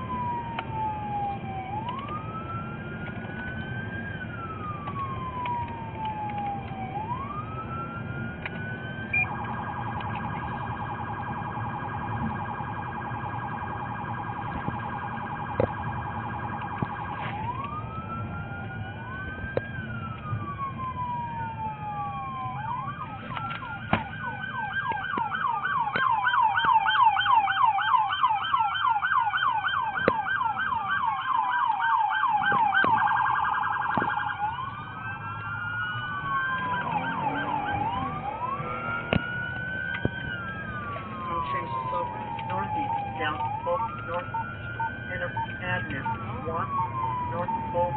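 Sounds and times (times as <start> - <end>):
fast siren yelp: 0.0 - 47.9
police siren wailing: 0.0 - 47.9
road and engine noise: 0.0 - 47.9
siren steady tone: 0.0 - 47.9.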